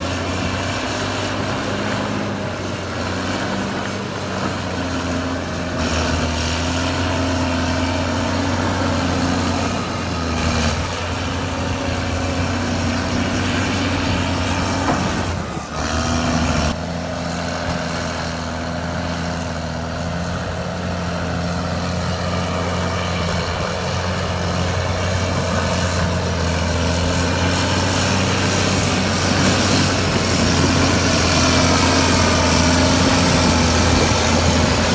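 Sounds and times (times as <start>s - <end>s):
bulldozer diesel engine: 0.0s - 34.9s.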